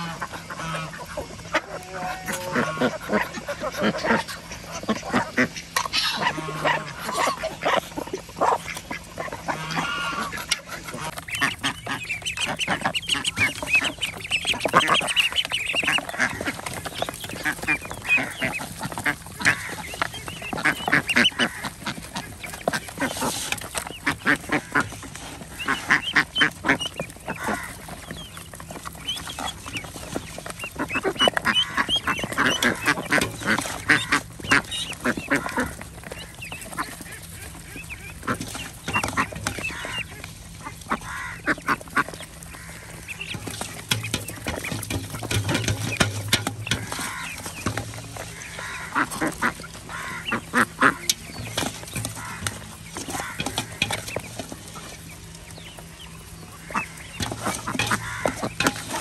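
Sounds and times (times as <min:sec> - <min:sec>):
bills pecking in feed: 0:00.0 - 0:59.0
ducks quacking: 0:00.0 - 0:59.0.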